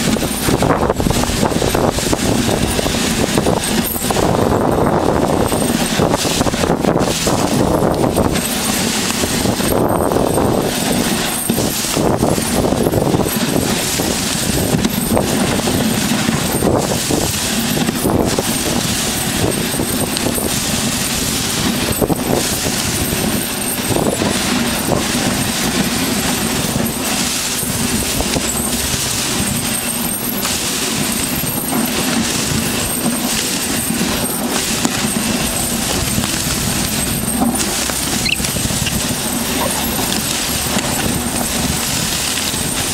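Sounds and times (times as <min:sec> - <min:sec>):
sled frame rattling: 0:00.0 - 0:42.9
sled runners scraping: 0:00.0 - 0:42.9.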